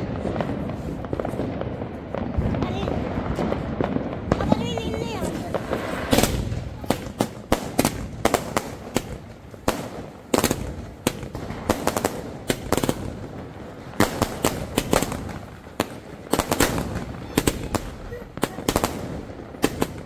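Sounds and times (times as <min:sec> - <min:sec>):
firecrackers banging: 0:00.0 - 0:20.0.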